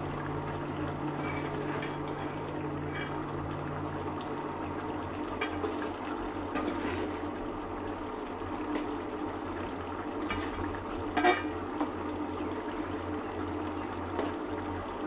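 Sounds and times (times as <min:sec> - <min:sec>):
curry bubbling in a pot: 0:00.0 - 0:15.0.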